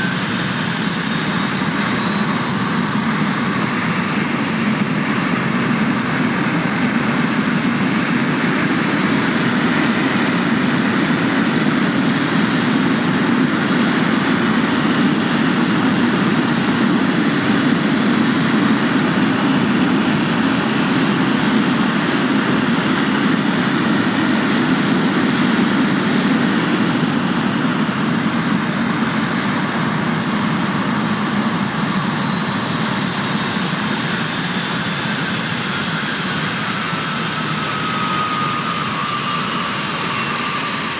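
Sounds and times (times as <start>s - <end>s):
jet engine rushing with high whine: 0.0s - 40.9s.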